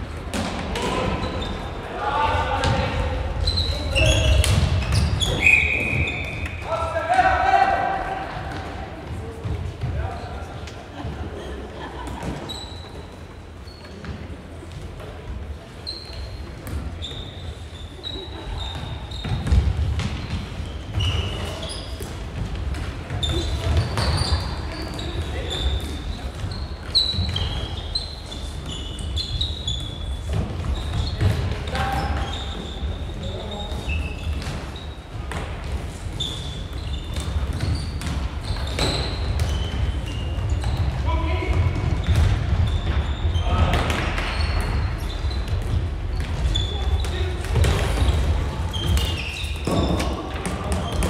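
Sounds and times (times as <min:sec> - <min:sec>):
low rumble of players moving: 0:00.0 - 0:51.0
shoes squeaking on hall floor: 0:00.0 - 0:51.0.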